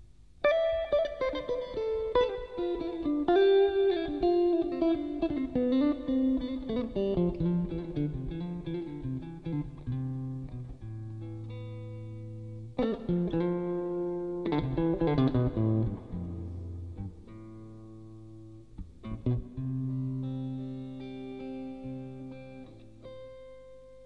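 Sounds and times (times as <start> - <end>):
electric guitar melody: 0.4 - 24.0.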